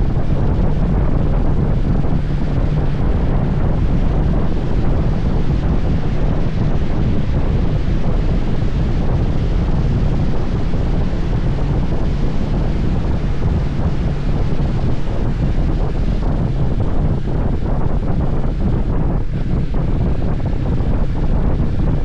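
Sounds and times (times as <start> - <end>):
low steady hum: 0.0 - 22.0
wind buffeting microphone: 0.0 - 22.0.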